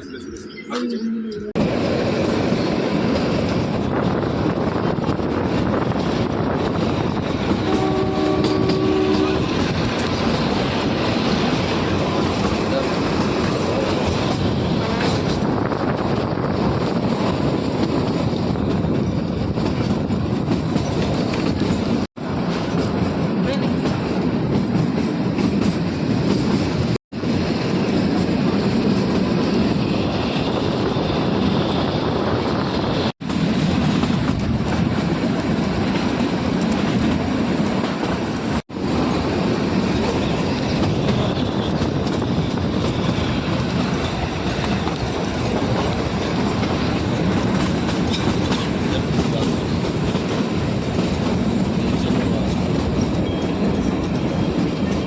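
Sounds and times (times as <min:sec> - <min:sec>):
train wheels clattering on rails: 0:01.6 - 0:55.0.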